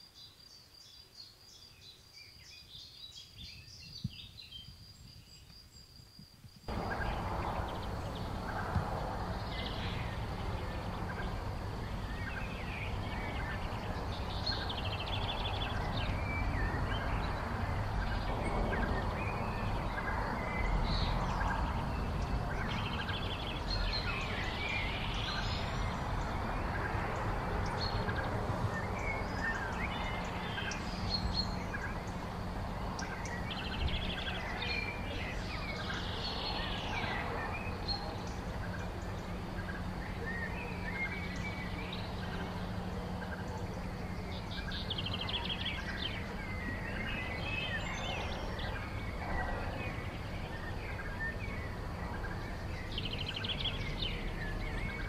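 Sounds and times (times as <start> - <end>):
birds chirping and trilling: 6.7 - 55.0
low steady hum: 6.7 - 55.0.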